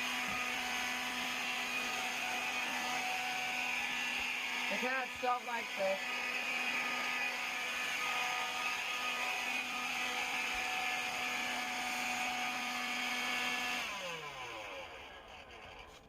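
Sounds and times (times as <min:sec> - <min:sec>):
stick vacuum motor whine: 0:00.0 - 0:16.0.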